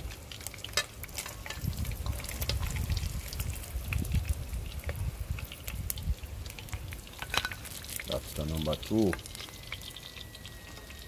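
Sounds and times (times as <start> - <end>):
hot oil crackling and popping: 0.0 - 11.0.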